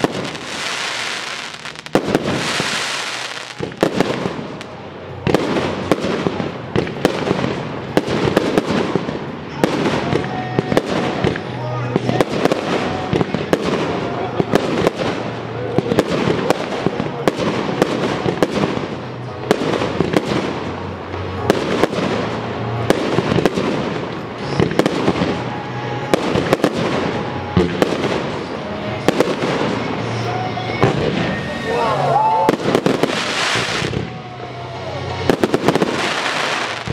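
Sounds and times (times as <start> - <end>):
fireworks crackle and rumble: 0.0 - 36.9.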